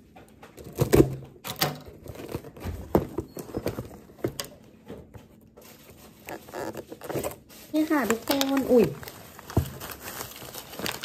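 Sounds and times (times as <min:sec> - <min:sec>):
cardboard scraping and rustling: 0:01.9 - 0:11.0.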